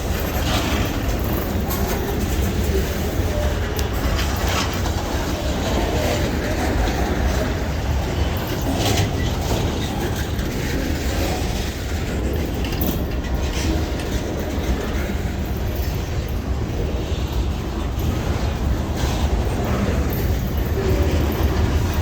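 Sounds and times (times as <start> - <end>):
freight train rumbling past: 0.0 - 22.0
train wheels clacking on rails: 0.0 - 22.0.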